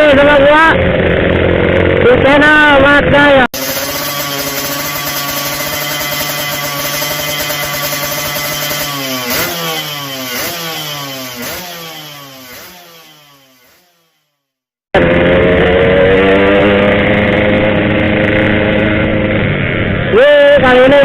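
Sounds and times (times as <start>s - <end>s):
motorcycle engine revving: 0.0s - 21.0s
motorcycle running under way: 0.0s - 21.0s.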